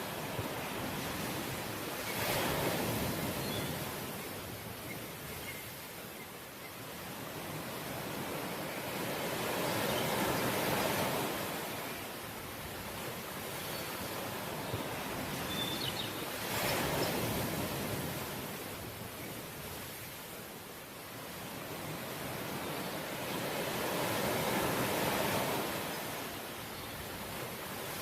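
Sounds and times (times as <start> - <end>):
sea waves washing ashore: 0.0 - 28.0.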